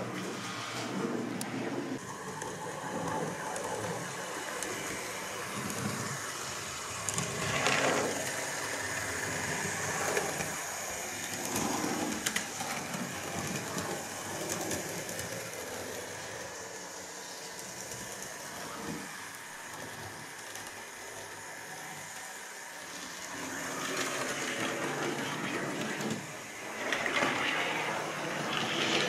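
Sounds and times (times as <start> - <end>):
model train wheels clicking: 0.2 - 29.0.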